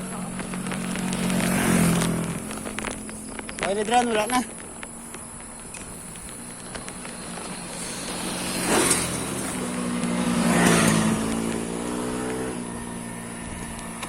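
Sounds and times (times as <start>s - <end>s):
vehicle engine passing: 0.0s - 4.0s, 6.4s - 14.0s.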